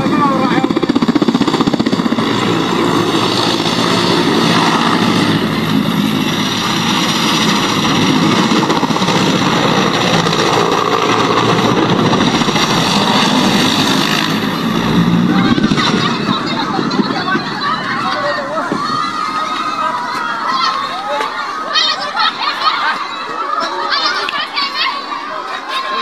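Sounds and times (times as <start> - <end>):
helicopter rotor and engine: 0.0 - 26.0.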